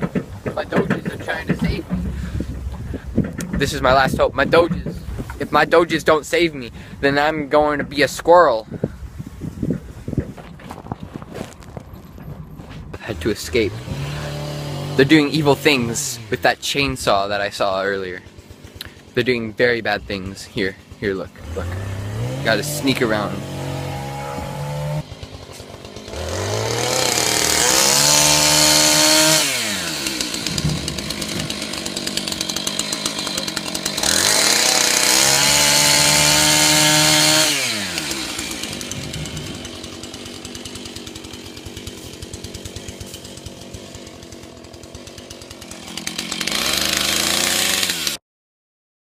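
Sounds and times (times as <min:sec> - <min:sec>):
chainsaw revving and idling: 0:00.0 - 0:08.8, 0:09.6 - 0:48.2.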